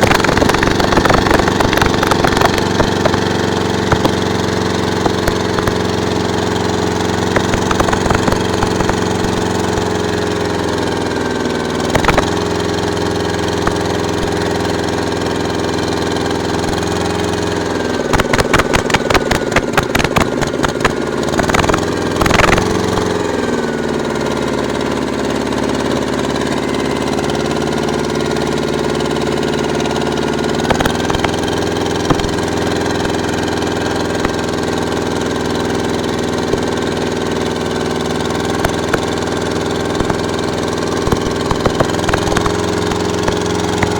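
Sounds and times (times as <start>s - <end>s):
rapid clicking knocks: 0.0s - 17.1s, 17.8s - 23.4s, 29.1s - 34.7s, 35.9s - 43.9s
engine running steadily: 0.0s - 43.9s.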